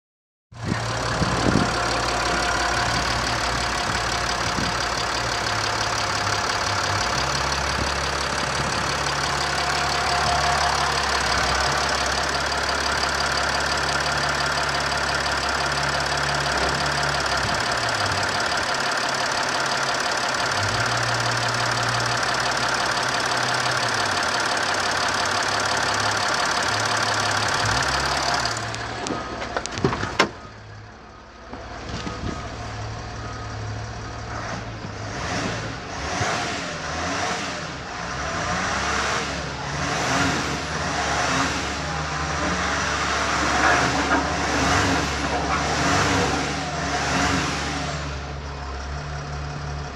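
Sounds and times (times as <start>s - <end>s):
diesel engine idling: 0.6s - 36.2s, 39.4s - 49.9s.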